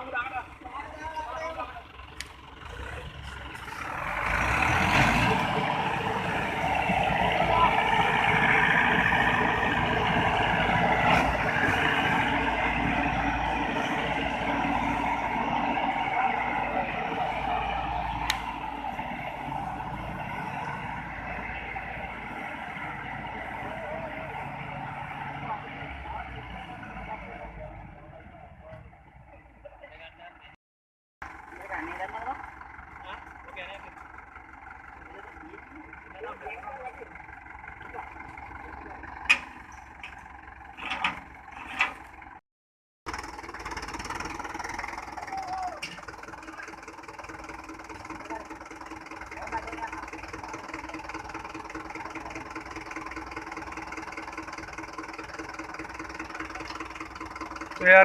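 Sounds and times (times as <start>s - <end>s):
tractor diesel engine running: 0.0s - 30.5s, 31.2s - 42.4s, 43.0s - 58.0s.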